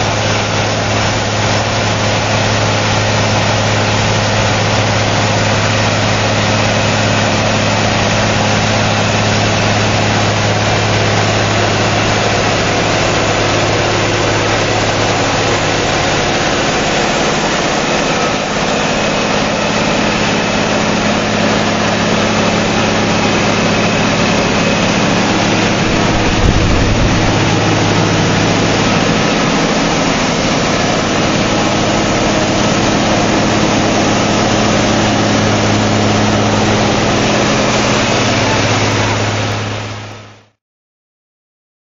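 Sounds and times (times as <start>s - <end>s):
diesel and compressor hum: 0.0s - 40.6s.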